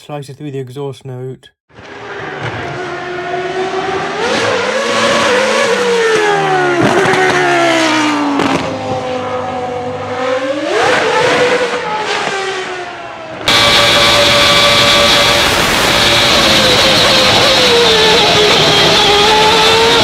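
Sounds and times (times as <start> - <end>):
racing car engine at high revs: 1.7 - 20.0.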